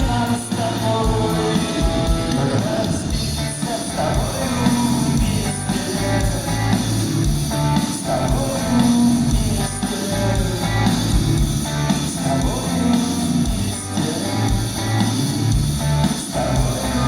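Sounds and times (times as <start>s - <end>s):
electric guitar: 0.0s - 17.0s
live rock band playing: 0.0s - 17.0s.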